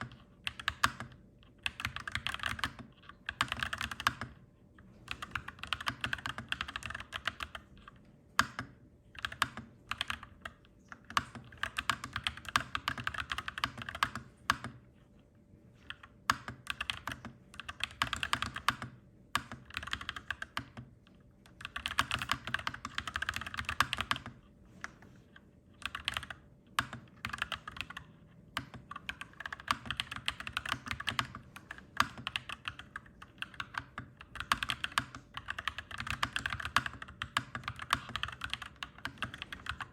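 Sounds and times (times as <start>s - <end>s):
mechanical keyboard typing: 0.0s - 4.4s, 5.0s - 14.8s, 15.8s - 25.0s, 25.8s - 39.9s.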